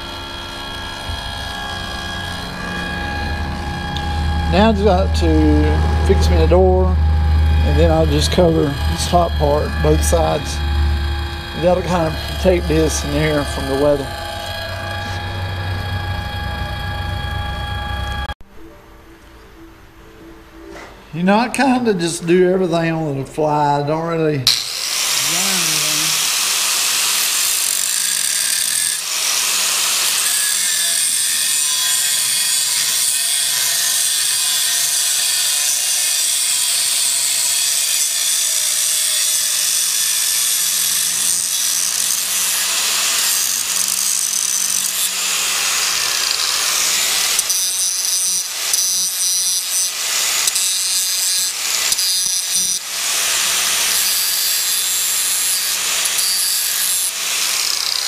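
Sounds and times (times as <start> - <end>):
angle grinder grinding steel: 0.0 - 18.4, 24.4 - 58.0.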